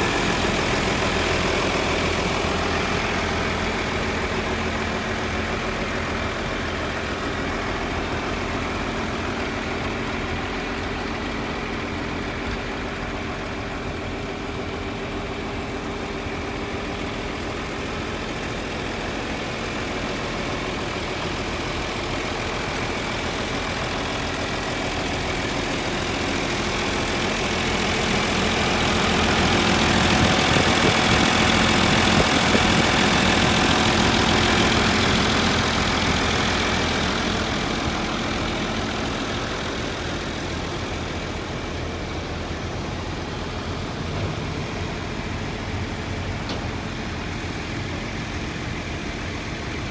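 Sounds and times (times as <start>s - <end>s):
tractor engine idling: 0.0s - 49.9s.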